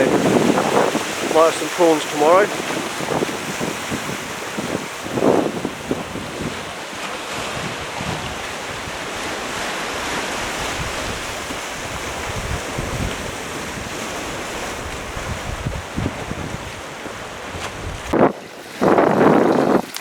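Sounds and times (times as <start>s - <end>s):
sea waves washing onto shore: 0.0s - 20.0s
wind buffeting microphone: 0.0s - 20.0s.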